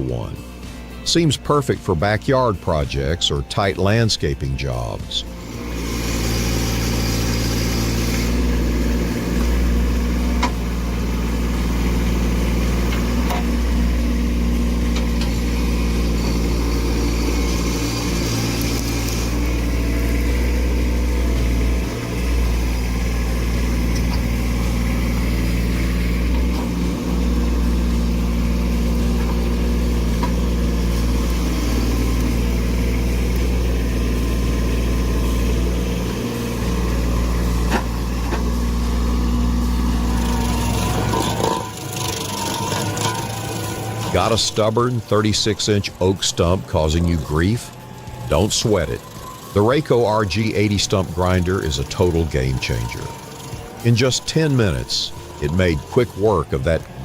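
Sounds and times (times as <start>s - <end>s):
machine engine running under load: 5.2s - 57.0s.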